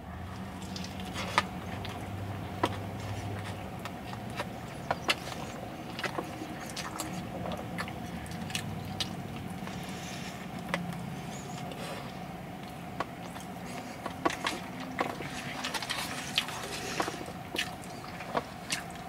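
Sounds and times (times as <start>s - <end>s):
steady low hum: 0.0s - 19.0s
person chewing a burger: 0.3s - 19.0s.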